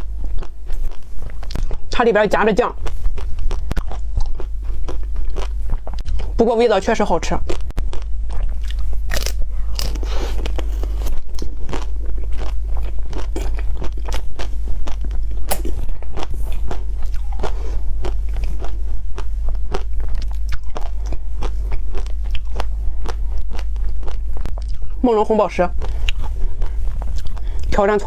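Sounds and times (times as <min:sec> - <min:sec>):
crunchy chewing: 0:00.0 - 0:06.4, 0:07.4 - 0:25.0, 0:25.7 - 0:28.0
steady low hum: 0:00.0 - 0:28.0.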